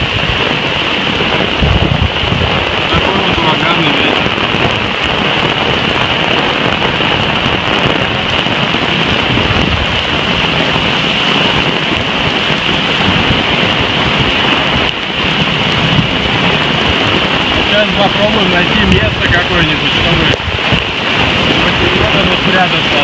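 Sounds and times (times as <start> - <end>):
torrential rain: 0.0 - 23.0
wind gusts rumbling: 0.0 - 23.0.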